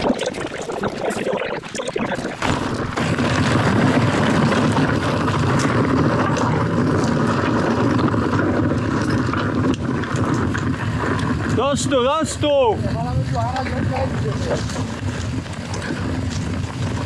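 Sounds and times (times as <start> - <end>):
bike tyres rolling over dirt: 0.0 - 17.0
wind buffeting microphone: 0.0 - 17.0.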